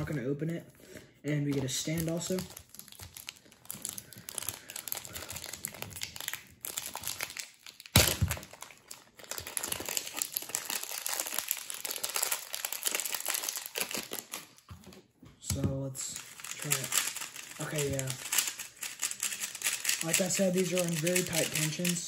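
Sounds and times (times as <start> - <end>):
plastic wrap crinkling: 1.5 - 15.0, 16.2 - 22.0.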